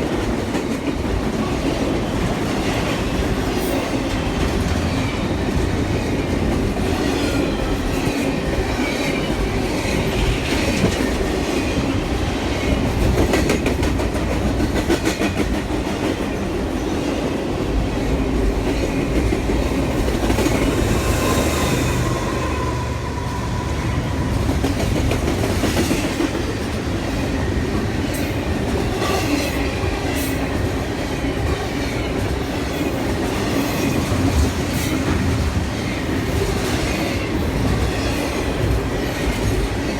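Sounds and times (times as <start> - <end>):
railroad cars rumbling past: 0.0 - 39.9.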